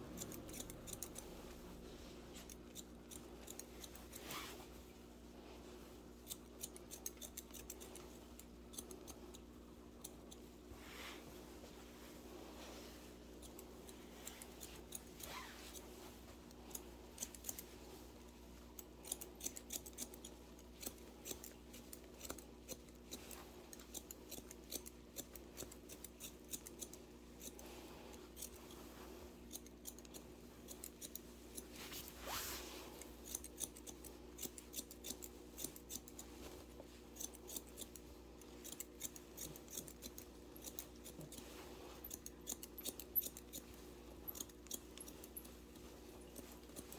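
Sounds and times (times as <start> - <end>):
scissors snipping hair: 0.0 - 4.6, 6.2 - 10.6, 13.2 - 32.2, 32.8 - 46.9.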